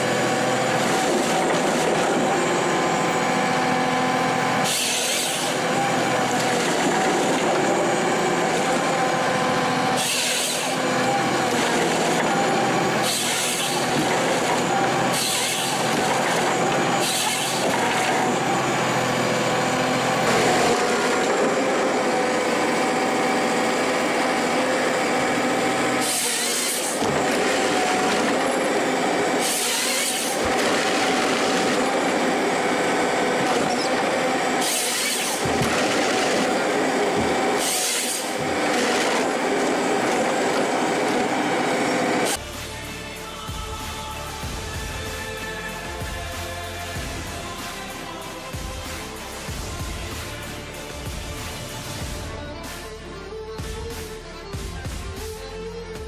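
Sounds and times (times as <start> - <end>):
forestry harvester running: 0.0 - 56.0.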